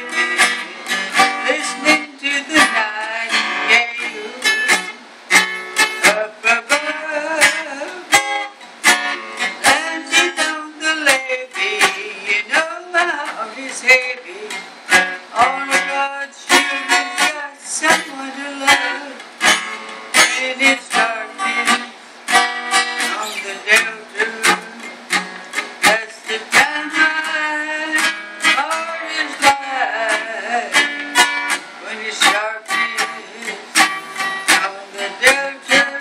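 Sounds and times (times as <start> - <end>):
acoustic guitar: 0.0 - 36.0.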